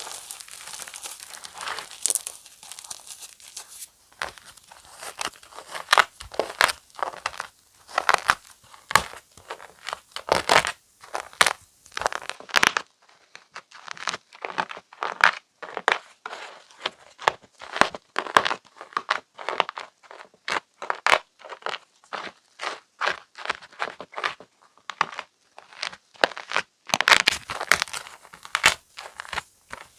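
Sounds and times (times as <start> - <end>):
chalk blocks crunching and crackling: 0.0 - 29.9.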